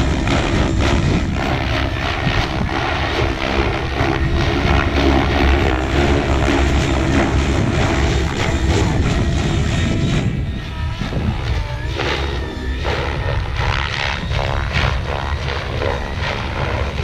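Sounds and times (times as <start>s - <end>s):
electric motor hum: 0.0s - 17.0s
helicopter rotor blades whooshing: 0.0s - 17.0s.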